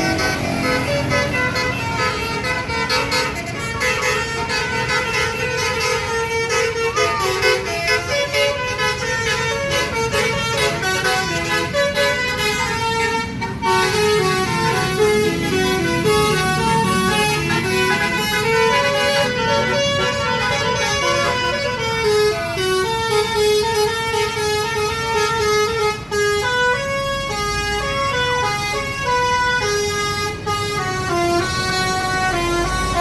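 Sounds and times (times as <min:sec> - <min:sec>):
multi-tone musical bus horn: 0:00.0 - 0:33.0.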